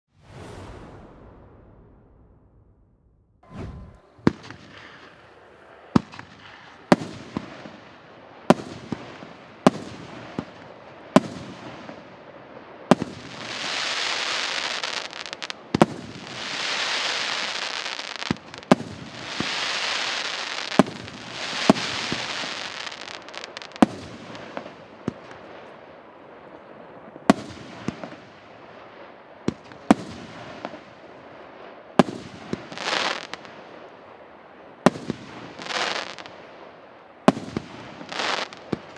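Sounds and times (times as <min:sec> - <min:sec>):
dense fireworks crackling: 0:00.1 - 0:38.9
fireworks bangs: 0:00.1 - 0:38.9.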